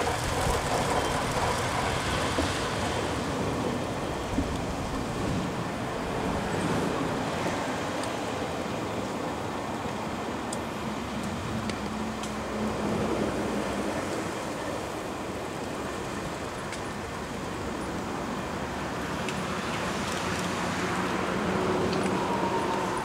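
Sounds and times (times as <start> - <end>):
train wheels on track: 0.0 - 23.0.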